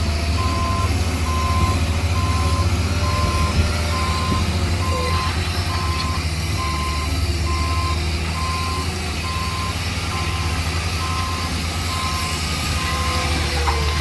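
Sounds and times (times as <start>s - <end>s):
heavy engine rumbling: 0.0s - 14.0s
reversing alarm beeping: 0.3s - 14.0s.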